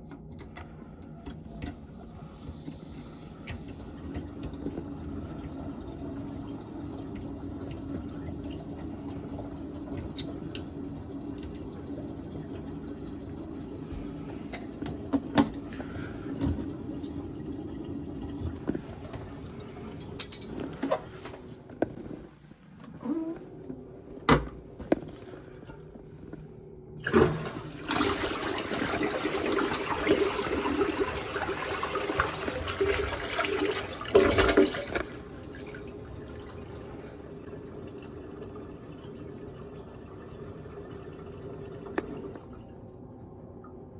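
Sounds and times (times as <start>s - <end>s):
toilet flushing: 0.0s - 21.4s, 27.0s - 43.9s.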